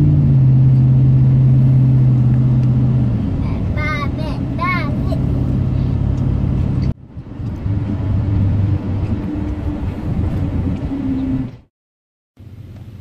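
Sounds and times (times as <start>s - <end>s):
vehicle driving drone from inside: 0.0s - 11.7s.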